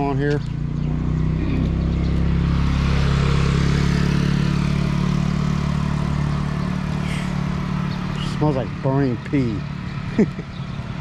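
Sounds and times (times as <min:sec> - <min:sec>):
low engine hum: 0:00.0 - 0:11.0
motorcycle engine approaching: 0:00.0 - 0:11.0.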